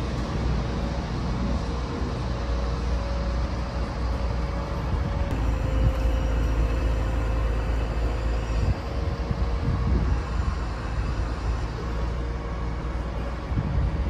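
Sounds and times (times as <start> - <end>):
diesel machinery engine rumble: 0.0 - 14.0
thin steady hum: 0.0 - 14.0.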